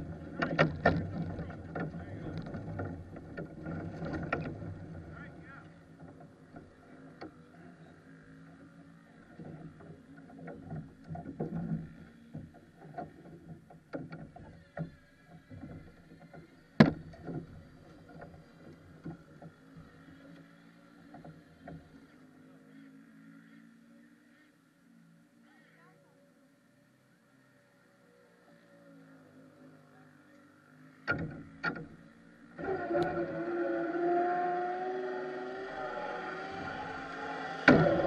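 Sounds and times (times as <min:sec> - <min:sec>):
distant go-kart engines droning: 0:00.0 - 0:38.0.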